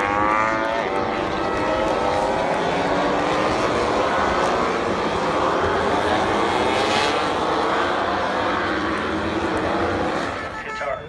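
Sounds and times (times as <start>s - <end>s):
racing motorbike engines at high revs: 0.0s - 11.0s.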